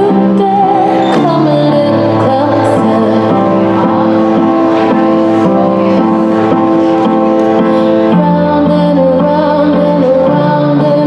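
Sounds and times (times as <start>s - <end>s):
sung melody over chords and bass: 0.0s - 11.0s.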